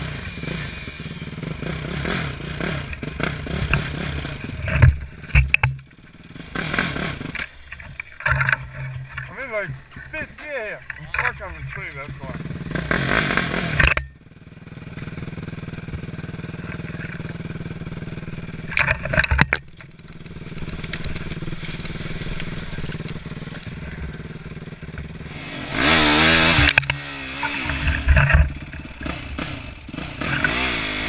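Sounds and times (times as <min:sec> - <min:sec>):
quad engine revving: 0:00.0 - 0:31.0.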